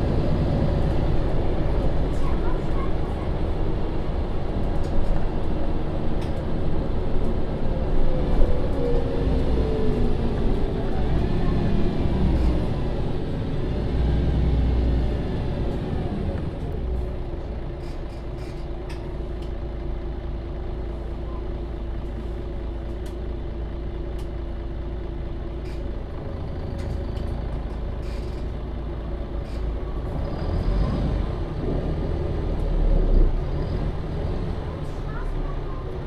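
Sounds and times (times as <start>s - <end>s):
bus engine drone: 0.0s - 36.0s.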